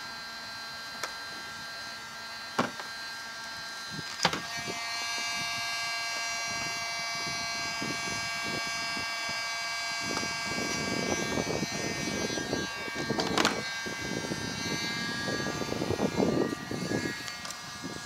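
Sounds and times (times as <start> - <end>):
heat gun blower whine: 0.0 - 18.0.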